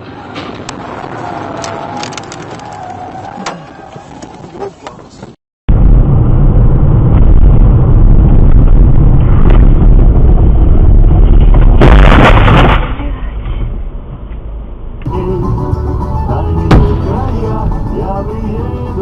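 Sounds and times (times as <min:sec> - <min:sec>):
distorted road and engine rumble: 0:00.0 - 0:19.0.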